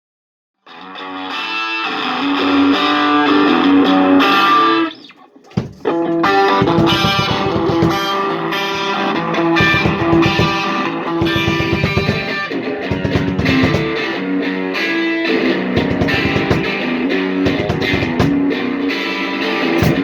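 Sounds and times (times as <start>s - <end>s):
overdriven electric guitar: 0.6s - 20.0s.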